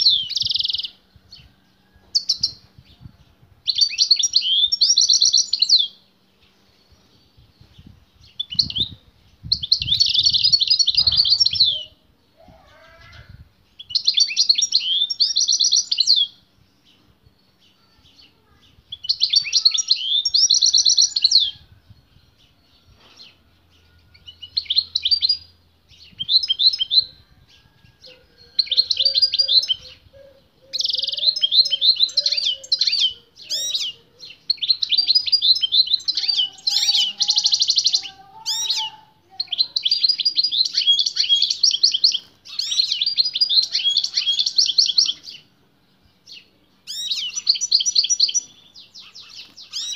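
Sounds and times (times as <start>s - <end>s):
finch singing: 0.0s - 45.5s, 46.2s - 49.9s
distant female bird singing: 0.0s - 49.9s.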